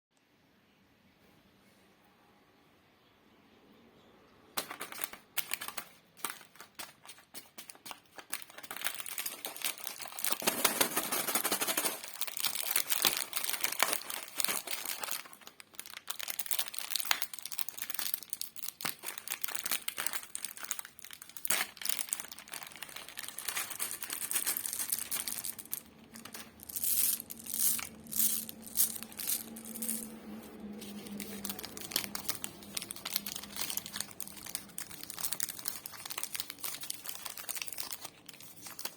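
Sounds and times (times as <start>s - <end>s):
plastic wrappers crinkling: 4.6s - 38.9s.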